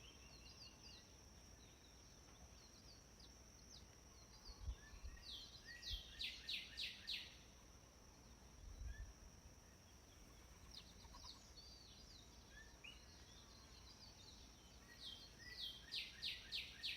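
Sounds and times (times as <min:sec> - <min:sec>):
songbird chirping: 0:00.0 - 0:16.9.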